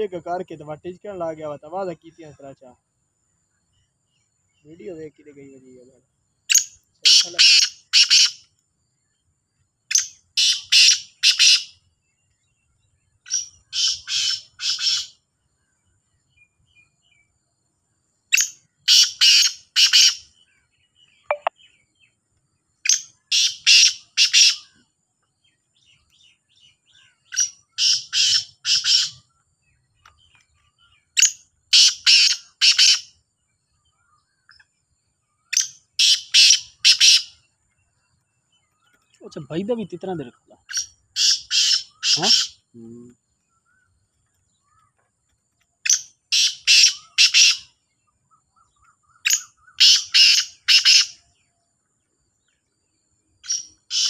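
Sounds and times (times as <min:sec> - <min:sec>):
francolins calling: 0:03.5 - 0:08.6, 0:09.2 - 0:17.4, 0:18.3 - 0:54.0.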